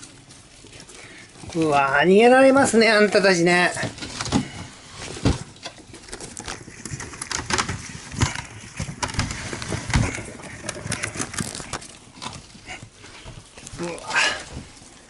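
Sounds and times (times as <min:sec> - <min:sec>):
hamsters scrabbling on newspaper: 0:00.0 - 0:15.0.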